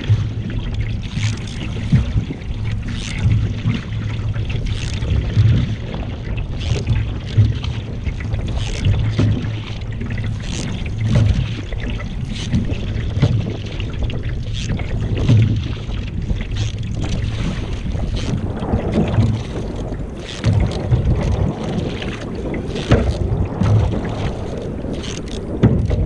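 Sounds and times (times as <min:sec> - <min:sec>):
paddle strokes splashing: 0:00.0 - 0:26.0
wind buffeting microphone: 0:00.0 - 0:26.0.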